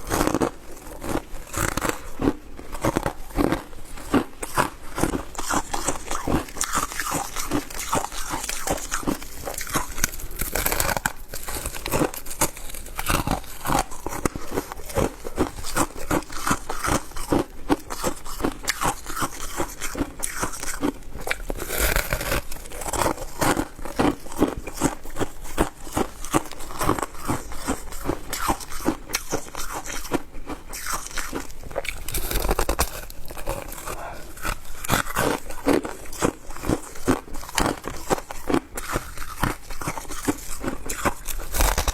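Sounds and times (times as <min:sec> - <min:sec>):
person chewing shaved ice: 0:00.0 - 0:41.9.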